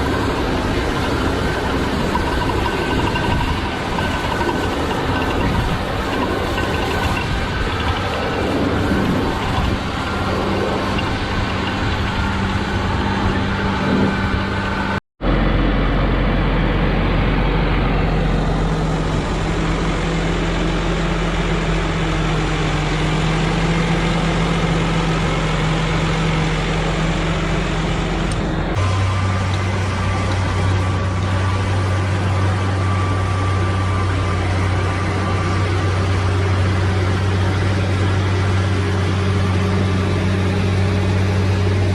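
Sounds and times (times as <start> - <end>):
heavy diesel engines running: 0.0 - 41.9.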